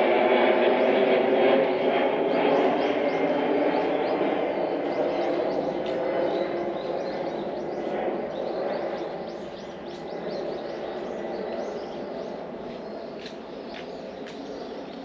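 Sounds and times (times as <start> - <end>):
small birds chirping: 2.3 - 15.0.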